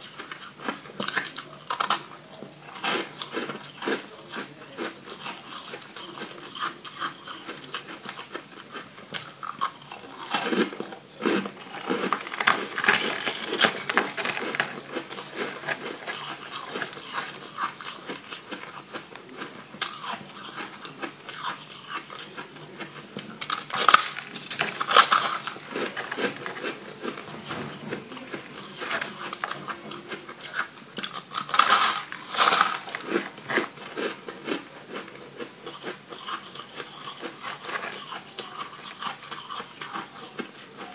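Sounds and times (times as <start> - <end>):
crunching frozen ice: 0.0 - 40.9.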